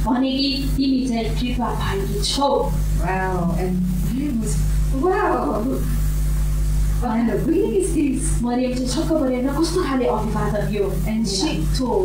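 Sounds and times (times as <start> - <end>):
woman's voice through loudspeaker: 0.0 - 5.9, 7.0 - 12.0
low electrical hum: 0.0 - 12.0.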